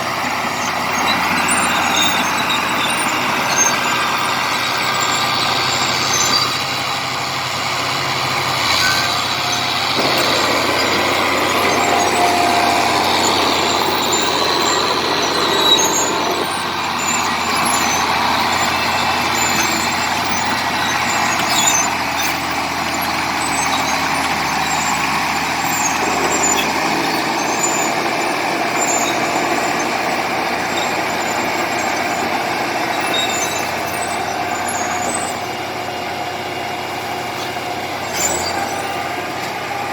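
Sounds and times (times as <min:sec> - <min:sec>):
bulldozer diesel engine running hard: 0:00.0 - 0:39.9.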